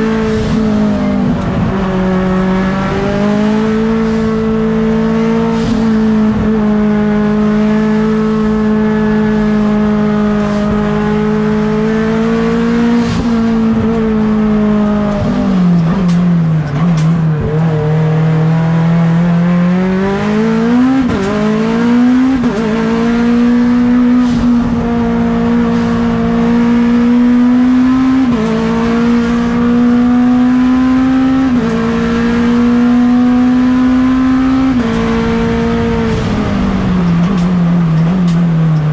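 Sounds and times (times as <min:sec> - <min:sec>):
car engine accelerating hard: 0:00.0 - 0:38.9.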